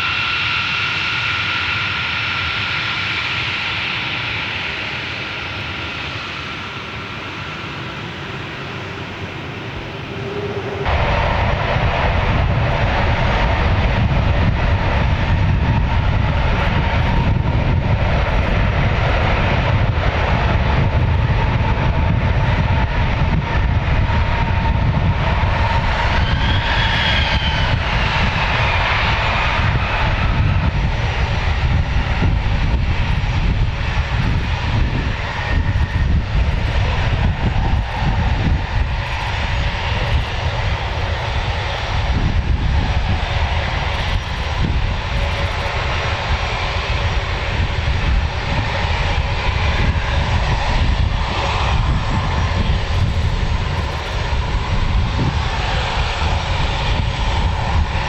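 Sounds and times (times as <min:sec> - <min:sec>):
aircraft engines rumbling with whine: 0:00.0 - 0:58.0.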